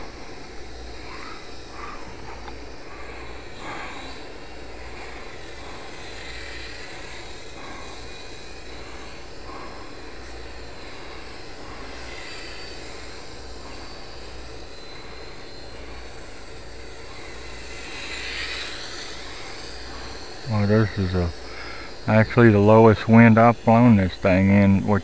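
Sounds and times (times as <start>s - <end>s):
model plane motor buzzing: 0.0s - 25.0s
steady hiss: 0.0s - 25.0s.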